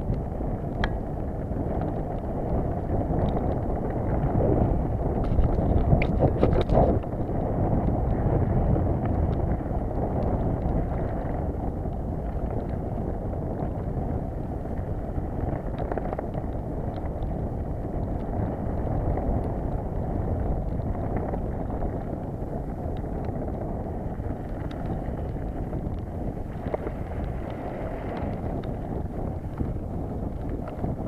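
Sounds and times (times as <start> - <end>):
bike tyres rolling on dirt: 0.0 - 31.0
wind on microphone: 0.0 - 31.0.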